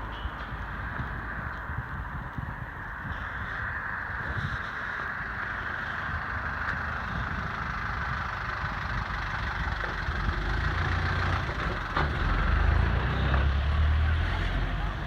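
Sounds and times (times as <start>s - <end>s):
road traffic noise: 0.0s - 15.0s
vehicle engine rumbling: 0.0s - 15.0s.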